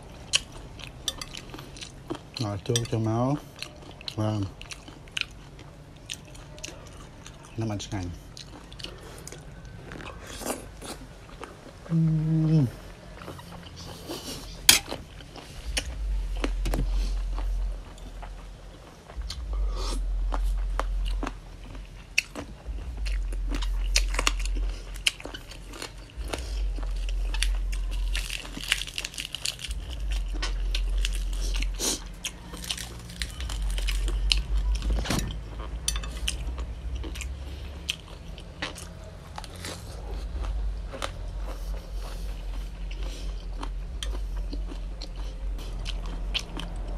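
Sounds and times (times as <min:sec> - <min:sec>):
crunchy chewing: 0:00.0 - 0:46.9
steady low rumble: 0:07.3 - 0:46.9.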